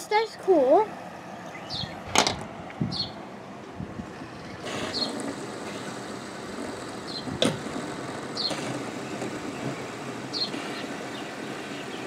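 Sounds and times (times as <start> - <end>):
steady noise: 0.6 - 12.0.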